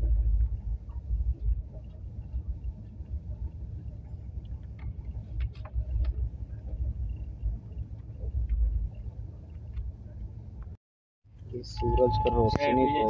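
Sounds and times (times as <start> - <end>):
sharp clicks and rattles: 0.0 - 11.6
train rumbling: 0.0 - 13.0.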